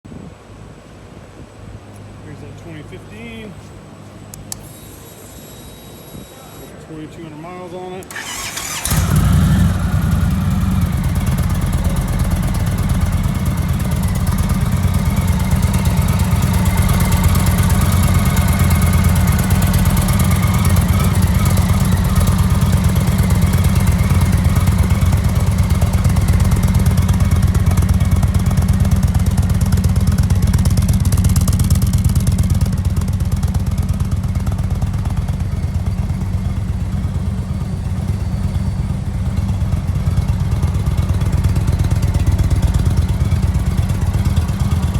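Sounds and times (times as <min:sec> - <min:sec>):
motorcycle engine idling: 0:08.1 - 0:44.9.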